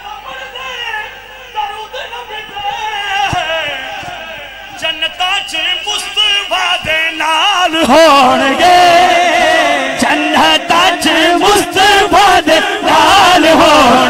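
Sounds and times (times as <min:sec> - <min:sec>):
man singing into a microphone: 0:01.6 - 0:14.0.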